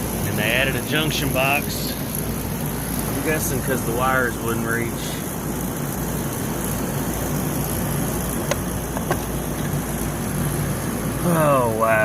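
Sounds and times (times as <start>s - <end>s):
faint high whine: 0.0s - 12.0s
hvac equipment humming: 0.0s - 12.0s.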